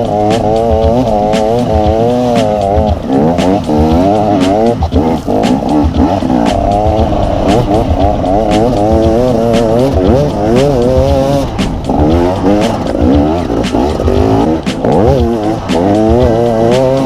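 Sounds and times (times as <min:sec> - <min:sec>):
motorbike engine revving: 0:00.0 - 0:17.0.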